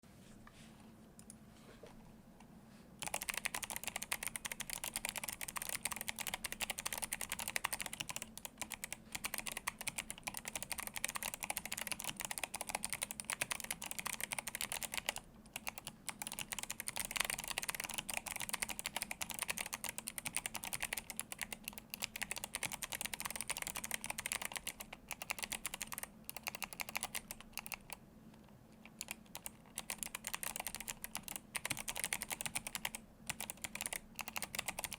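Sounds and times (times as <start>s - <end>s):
clicky keyboard typing: 3.0s - 28.0s, 28.7s - 34.9s.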